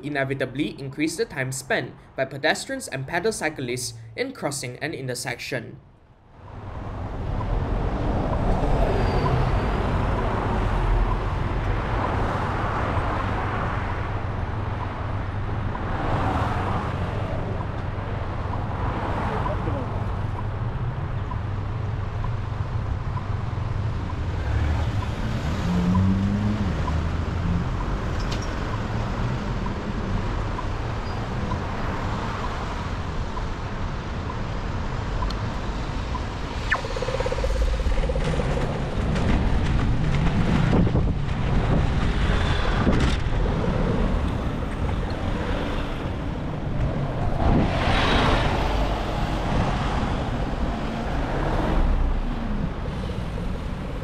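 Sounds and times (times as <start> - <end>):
road traffic rumble: 5.9 - 54.0.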